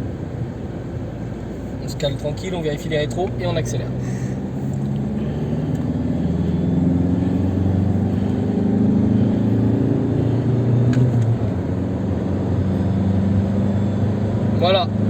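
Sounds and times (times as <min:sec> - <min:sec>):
diesel engine accelerating: 0:00.0 - 0:15.0.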